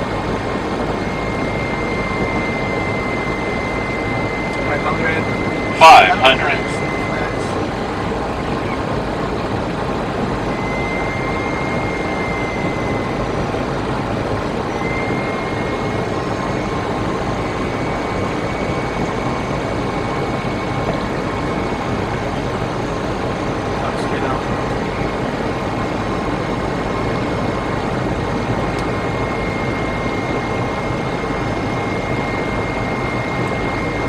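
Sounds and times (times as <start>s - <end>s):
faint thin whine tone: 0.0s - 8.9s, 10.4s - 13.8s, 14.5s - 34.0s
aircraft engine and air rush: 0.0s - 34.0s.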